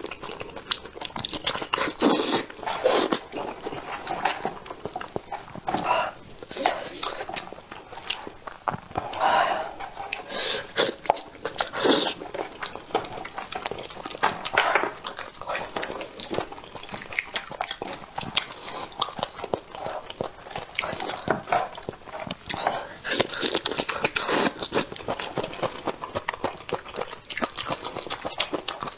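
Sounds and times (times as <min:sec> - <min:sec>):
chewing: 0:00.0 - 0:28.9.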